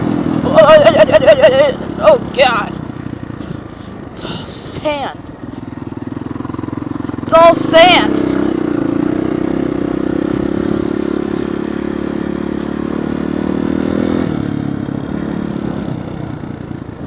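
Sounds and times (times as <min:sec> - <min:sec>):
dirt bike engine under throttle: 0:00.0 - 0:17.0.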